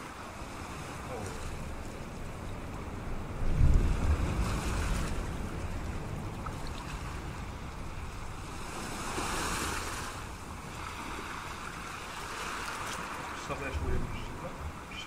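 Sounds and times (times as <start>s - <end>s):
surf washing against rocks: 0.0s - 15.0s
wind rumbling on microphone: 0.0s - 15.0s.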